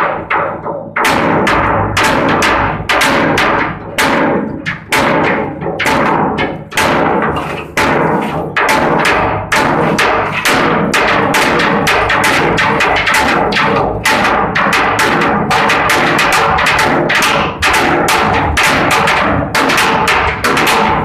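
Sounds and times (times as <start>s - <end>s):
echoing percussive beat: 0.0s - 21.0s.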